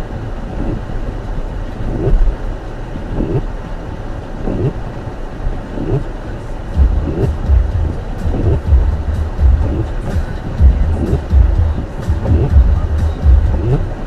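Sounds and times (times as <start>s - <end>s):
car cabin road noise: 0.0s - 14.0s
windshield wipers sweeping: 0.0s - 14.0s.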